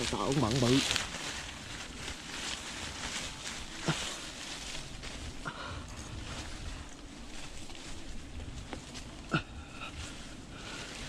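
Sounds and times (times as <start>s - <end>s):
rustling on microphone: 0.0s - 11.0s
wind noise on microphone: 0.0s - 11.0s.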